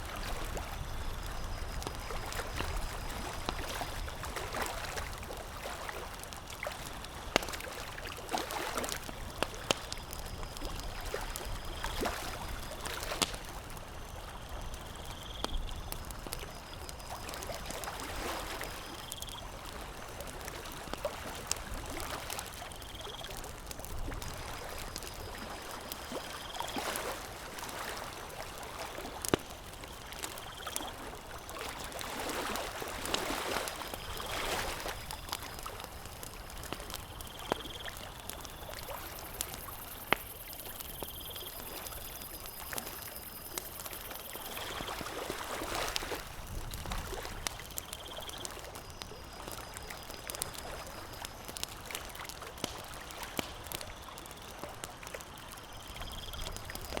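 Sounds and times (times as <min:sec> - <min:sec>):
campfire crackling and popping: 0:00.0 - 0:57.0
water: 0:00.0 - 0:57.0.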